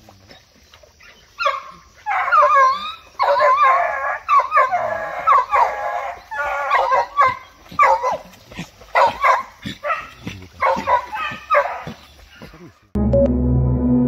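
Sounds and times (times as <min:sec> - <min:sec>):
hounds baying: 0:01.0 - 0:12.8.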